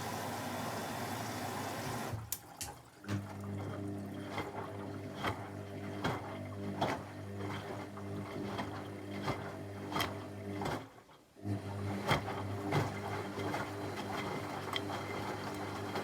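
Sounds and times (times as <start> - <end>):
washing machine motor hum: 0.0 - 10.8, 11.4 - 16.0.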